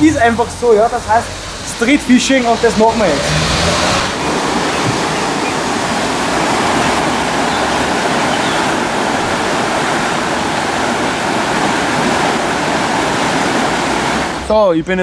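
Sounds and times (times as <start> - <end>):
water rushing: 0.0 - 14.8.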